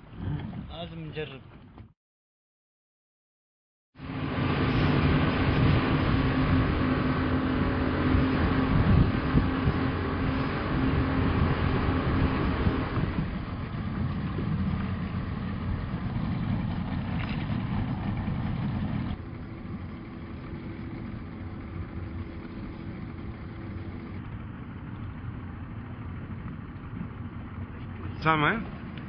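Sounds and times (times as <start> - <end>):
motorboat engine drone: 4.0 - 29.0.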